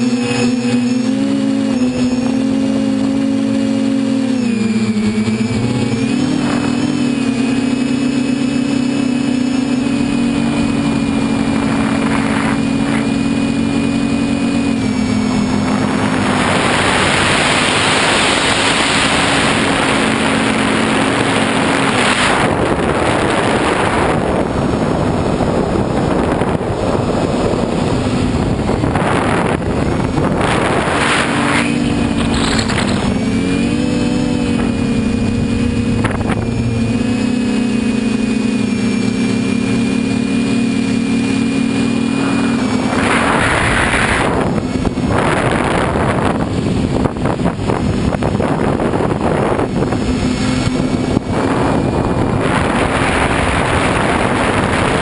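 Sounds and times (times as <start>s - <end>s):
drone propellers buzzing: 0.0s - 55.0s
rushing air noise: 4.9s - 39.1s, 40.0s - 55.0s.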